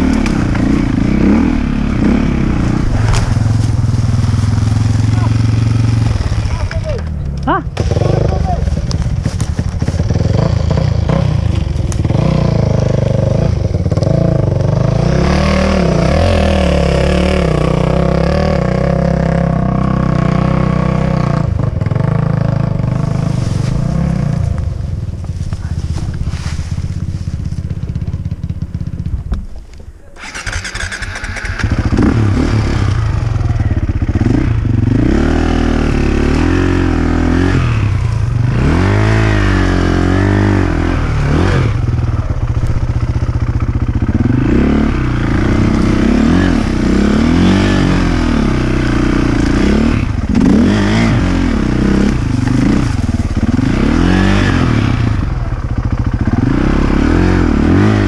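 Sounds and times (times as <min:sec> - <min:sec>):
dirt bike engine revving: 0:00.0 - 0:26.4, 0:30.2 - 0:58.0.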